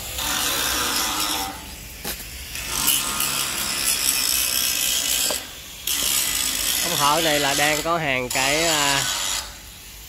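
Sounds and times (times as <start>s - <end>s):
electric arc welding buzz: 0.0s - 10.0s.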